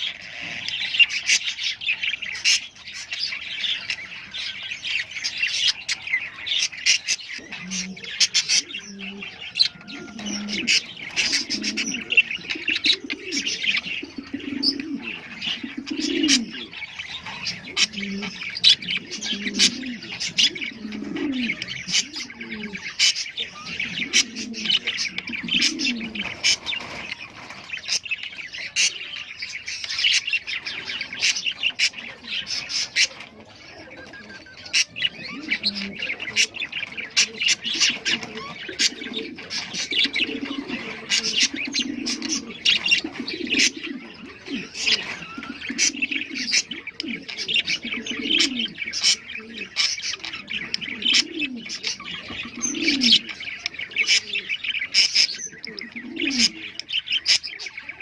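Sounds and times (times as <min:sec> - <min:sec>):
small parrots chattering: 0:00.0 - 0:58.0.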